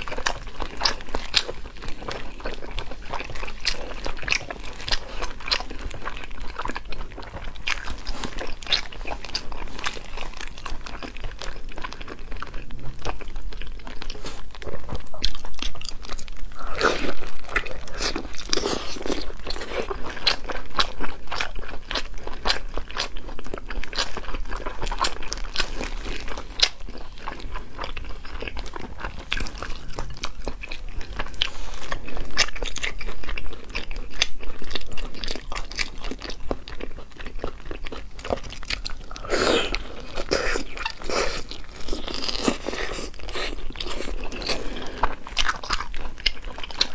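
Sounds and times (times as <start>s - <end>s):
mouth chewing clicks and smacks: 0.0s - 46.9s.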